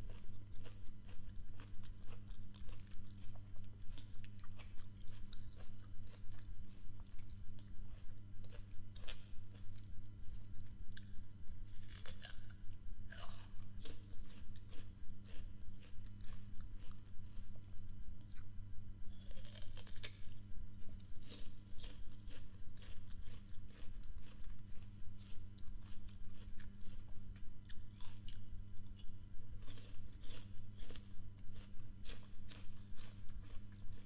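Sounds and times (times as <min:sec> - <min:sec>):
crunching and chewing fruit: 0:00.0 - 0:34.0
steady low hum: 0:00.0 - 0:34.0.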